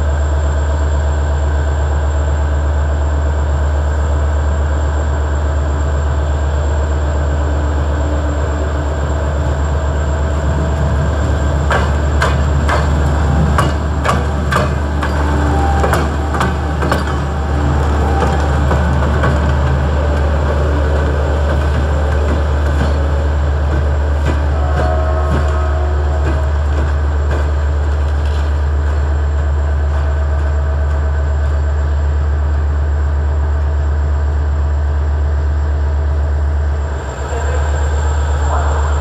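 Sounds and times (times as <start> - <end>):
train locomotive deep drone: 0.0 - 39.0.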